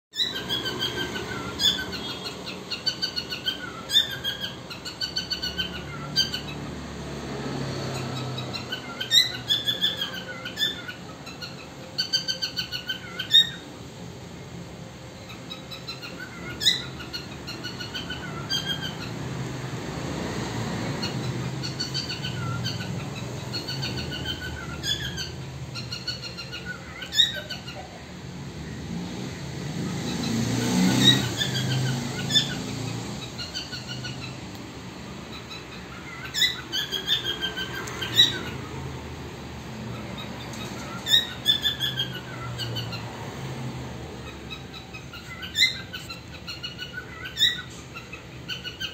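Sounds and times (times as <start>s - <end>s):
cockatiels chirping: 0.2s - 6.7s, 7.8s - 13.7s, 15.2s - 19.2s, 20.5s - 28.0s, 30.0s - 34.6s, 35.2s - 38.8s, 39.9s - 43.2s, 44.1s - 48.9s.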